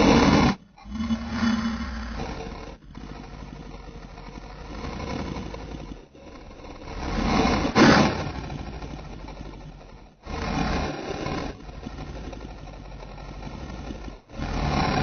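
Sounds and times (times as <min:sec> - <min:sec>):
monster growling and roaring: 0:00.0 - 0:15.0.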